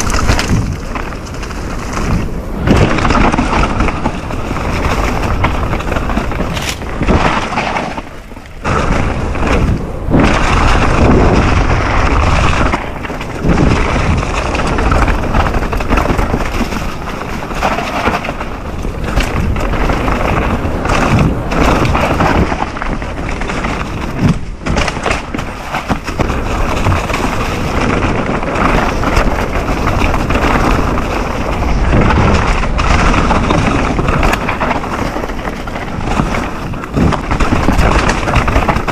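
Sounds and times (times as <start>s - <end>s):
bike thuds and rattles: 0.0s - 38.9s
bike tyres over dirt and rocks: 0.0s - 38.9s
wind buffeting microphone: 0.0s - 38.9s.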